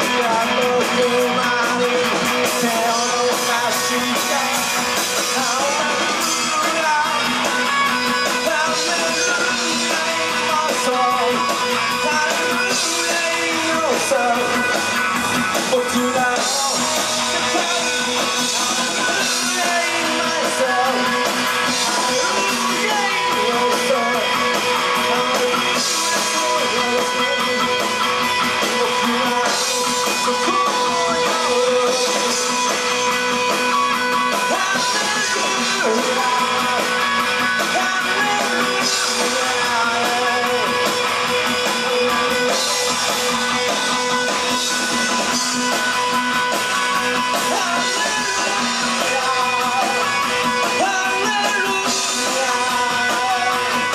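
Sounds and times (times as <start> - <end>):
rock band instrumental: 0.0 - 53.9.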